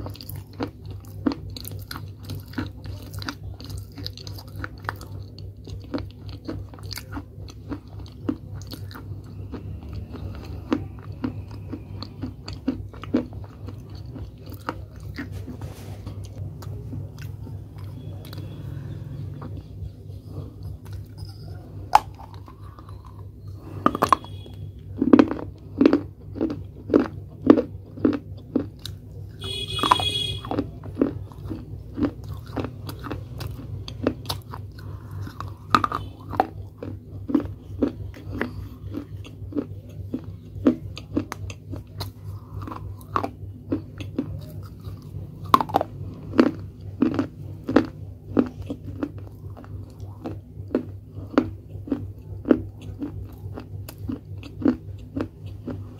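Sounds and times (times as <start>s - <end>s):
crunching chewing of clay: 0.0s - 55.9s
steady low hum: 0.0s - 55.9s.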